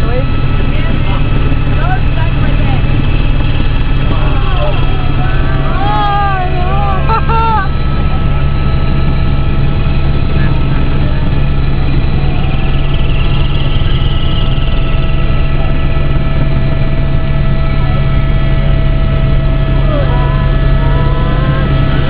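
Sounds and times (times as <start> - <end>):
small aircraft engine drone: 0.0 - 22.0
whining tones: 0.0 - 22.0.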